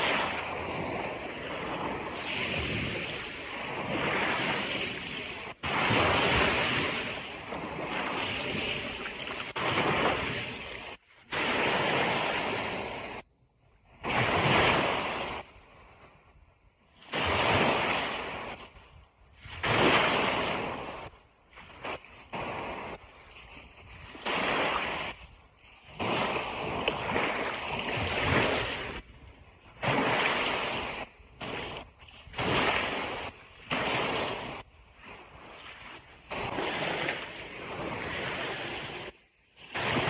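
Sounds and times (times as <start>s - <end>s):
ocean surf breaking on beach: 0.0s - 13.2s, 14.0s - 16.0s, 16.9s - 18.8s, 19.4s - 40.0s.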